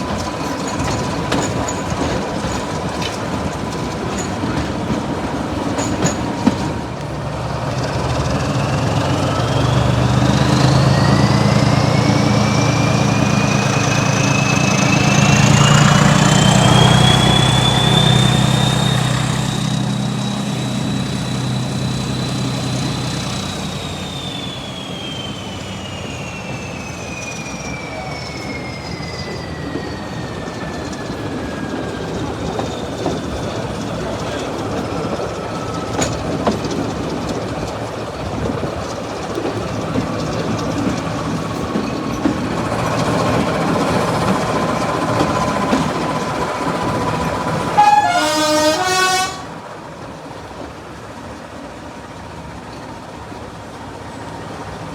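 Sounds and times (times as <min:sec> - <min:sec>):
locomotive engine: 0:00.0 - 0:54.9.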